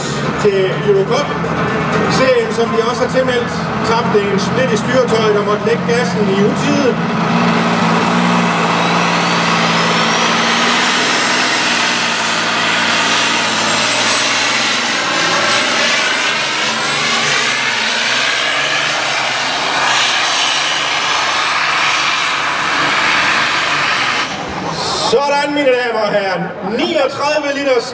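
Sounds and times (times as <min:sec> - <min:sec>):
tractor engine at full throttle: 0:00.0 - 0:27.9.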